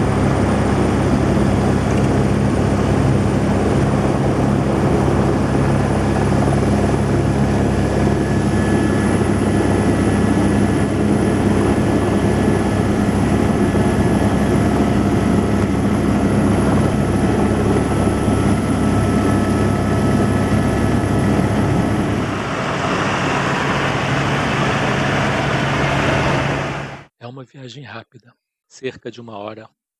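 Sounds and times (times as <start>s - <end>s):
helicopter rotor and engine drone: 0.0s - 27.1s
high whine: 0.0s - 27.1s.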